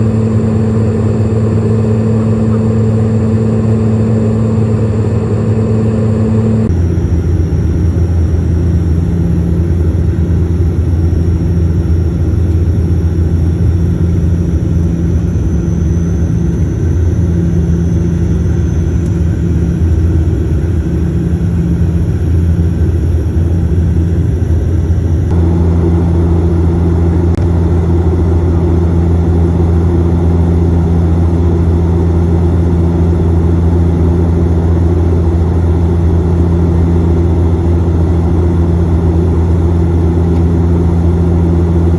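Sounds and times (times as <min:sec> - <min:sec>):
aircraft engine drone in cabin: 0:00.0 - 0:41.9.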